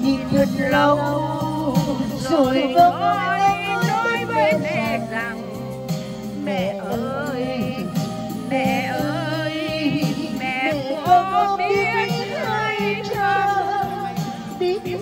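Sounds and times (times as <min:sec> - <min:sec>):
person singing through loudspeaker: 0:00.0 - 0:05.8, 0:06.4 - 0:15.0
music accompaniment: 0:00.0 - 0:15.0.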